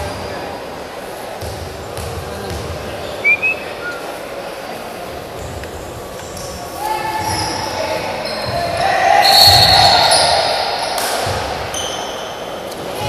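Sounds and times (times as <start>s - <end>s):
voices echoing: 0.0s - 13.0s
sneakers squeaking: 1.4s - 13.0s.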